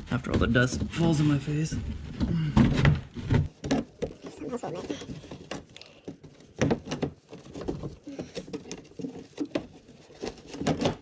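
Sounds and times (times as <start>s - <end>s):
plastic shield clicking and scraping: 2.1s - 11.0s.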